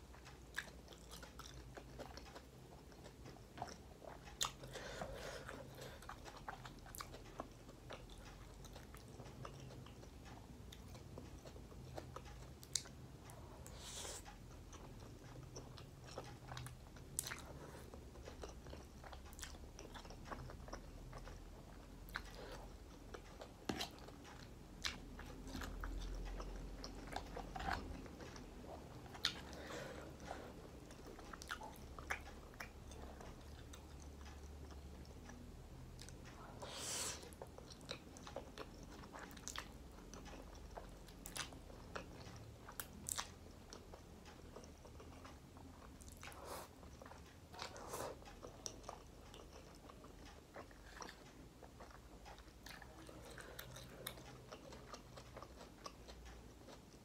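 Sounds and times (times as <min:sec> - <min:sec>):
low steady hum: 0:00.0 - 0:57.0
person chewing noodles: 0:00.0 - 0:57.0.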